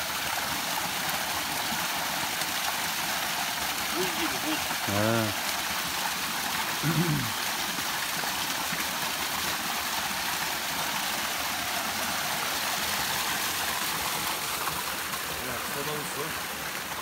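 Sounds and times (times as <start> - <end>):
forest stream rushing: 0.0 - 17.0.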